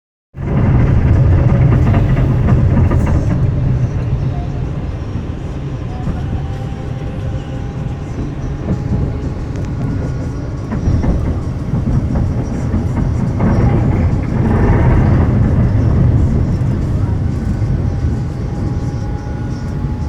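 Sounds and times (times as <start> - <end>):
train clicks: 0.4 - 20.0
train rumbling: 0.4 - 20.0.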